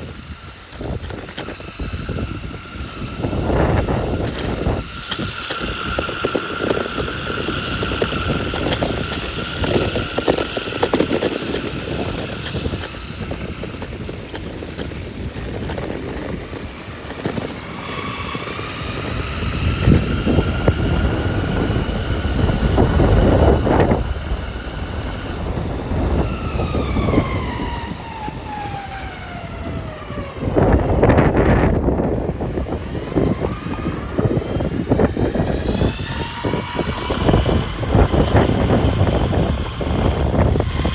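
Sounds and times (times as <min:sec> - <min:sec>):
electric motors whining: 0:00.0 - 0:40.9
wind buffeting microphone: 0:00.0 - 0:40.9.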